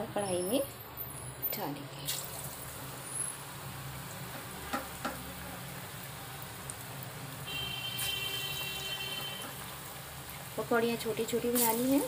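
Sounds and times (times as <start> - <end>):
oil sizzling with sharp pops: 1.1 - 12.0.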